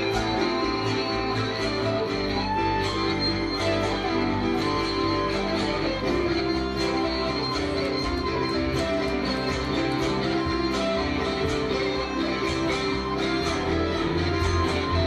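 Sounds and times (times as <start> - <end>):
acoustic guitar: 0.0 - 15.0
electric guitar lead: 0.0 - 15.0
keyboards: 0.0 - 15.0.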